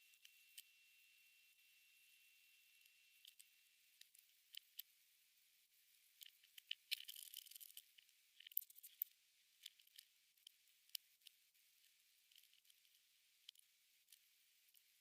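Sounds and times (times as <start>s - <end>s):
faint clicks and scratchy rustles: 0.0s - 15.0s.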